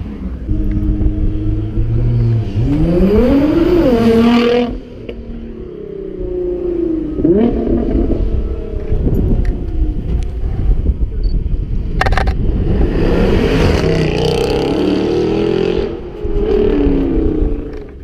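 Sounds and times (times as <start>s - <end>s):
second car revving: 0.0s - 10.4s, 11.8s - 18.0s.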